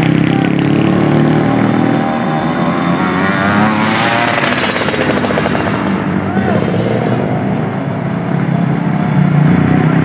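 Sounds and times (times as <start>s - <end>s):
wavering high engine whine: 0.0s - 8.6s
motor scooter engines running hard: 0.0s - 10.0s.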